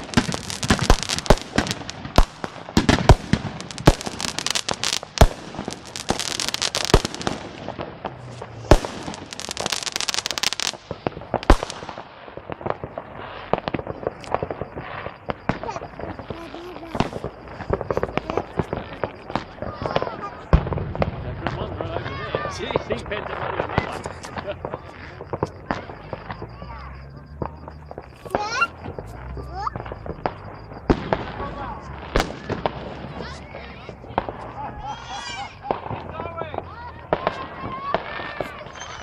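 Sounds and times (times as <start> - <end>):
firecrackers crackling: 0.0 - 39.0
fireworks bangs: 0.0 - 39.0.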